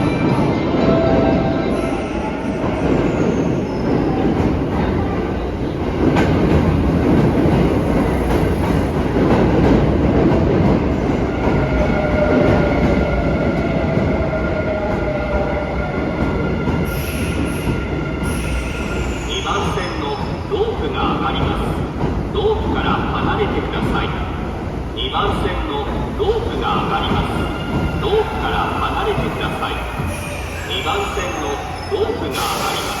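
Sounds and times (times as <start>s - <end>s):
train rumble and wheel clatter: 0.0s - 33.0s.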